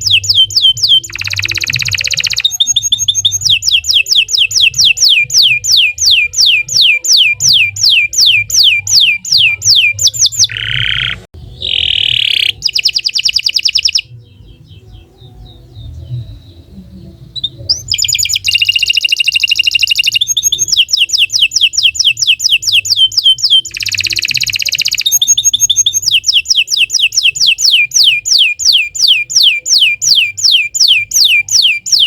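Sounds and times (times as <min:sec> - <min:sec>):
canary singing: 0:00.0 - 0:32.0.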